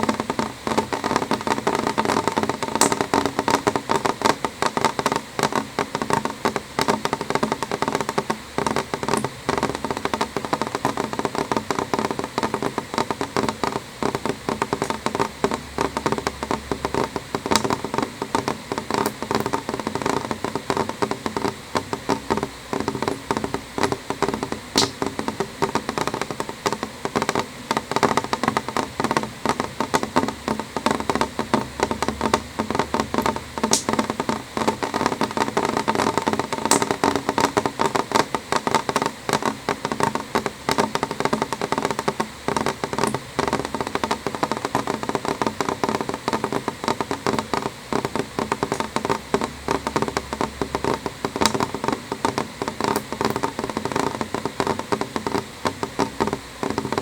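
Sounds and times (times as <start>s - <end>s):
rain on window pane: 0.0s - 57.0s.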